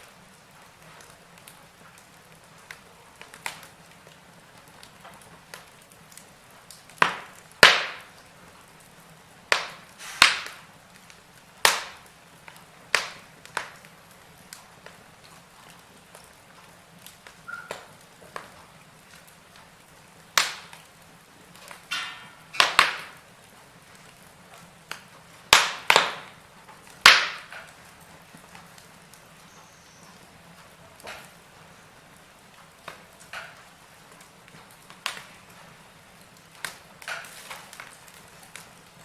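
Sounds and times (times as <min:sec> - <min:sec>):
logs crackling in fireplace: 0:00.0 - 0:39.0
low steady fire hiss: 0:00.0 - 0:39.0.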